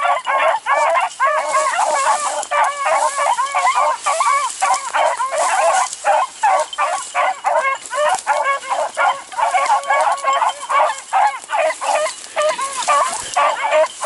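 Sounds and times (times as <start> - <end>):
beagles baying: 0.0 - 14.0.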